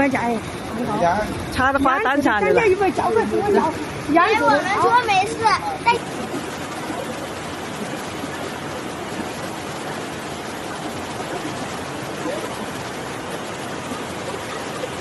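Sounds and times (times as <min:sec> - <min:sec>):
floodwater rushing over road: 0:00.0 - 0:15.0.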